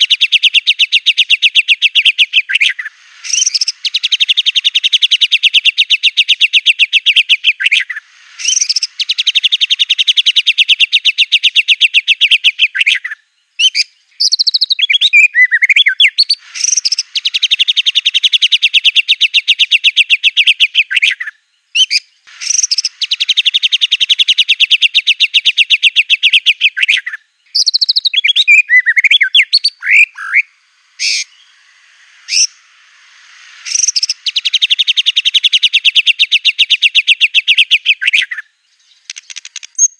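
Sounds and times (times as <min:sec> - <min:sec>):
bird rapid trills: 0:00.0 - 0:13.0, 0:13.7 - 0:21.1, 0:21.8 - 0:26.7, 0:27.5 - 0:39.9
bird whistled phrases: 0:00.0 - 0:31.4, 0:33.6 - 0:38.5.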